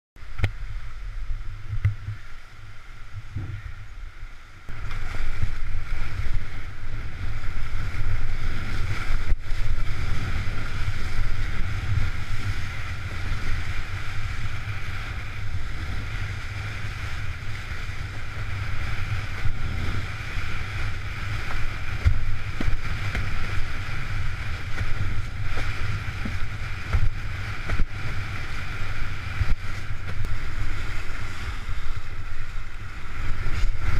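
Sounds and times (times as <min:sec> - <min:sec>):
rushing water: 0:00.2 - 0:33.9
wind rumbling on microphone: 0:00.2 - 0:33.9.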